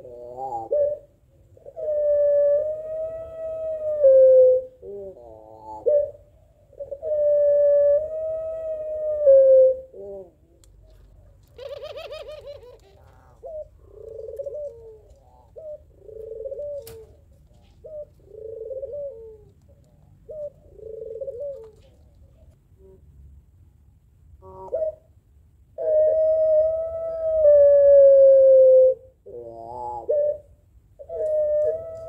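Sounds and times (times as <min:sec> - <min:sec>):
doves cooing: 0:00.0 - 0:23.1, 0:24.4 - 0:25.1, 0:25.8 - 0:32.0.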